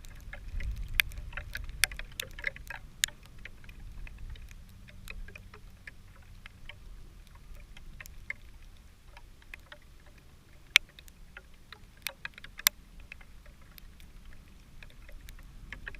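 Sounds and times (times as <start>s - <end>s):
campfire crackling: 0.0s - 15.9s.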